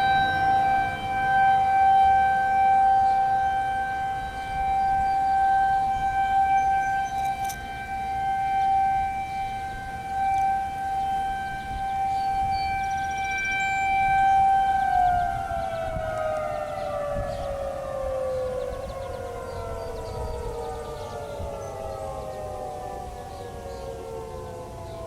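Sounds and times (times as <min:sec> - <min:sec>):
warning siren winding down: 0:00.0 - 0:25.0.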